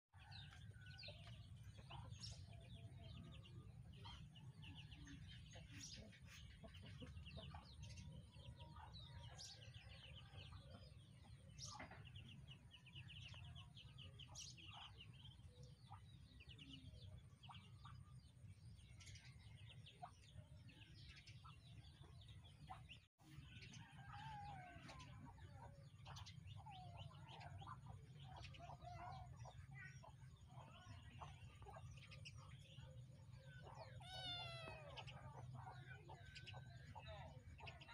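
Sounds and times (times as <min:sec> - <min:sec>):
birds chirping: 0:00.2 - 0:37.9.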